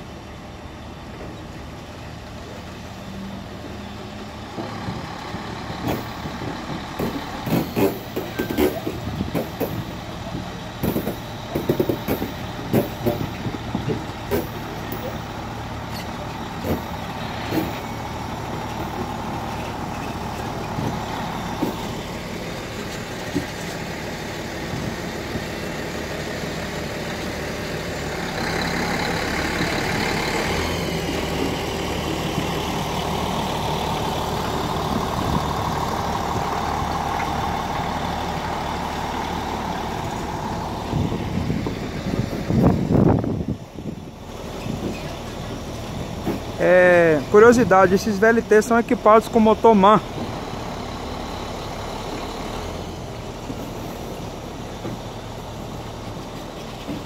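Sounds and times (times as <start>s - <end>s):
train engine drone: 0.0s - 57.0s.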